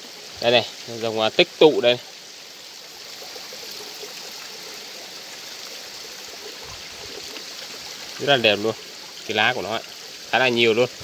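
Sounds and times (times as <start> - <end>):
small stream rushing: 0.0 - 11.0.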